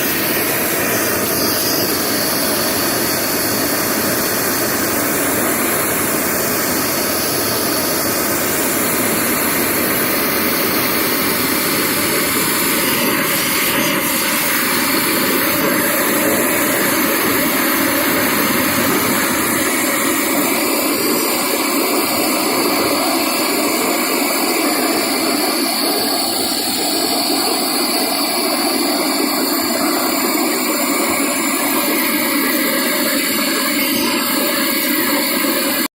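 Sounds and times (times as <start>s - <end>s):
propane torch burning: 0.0s - 35.9s.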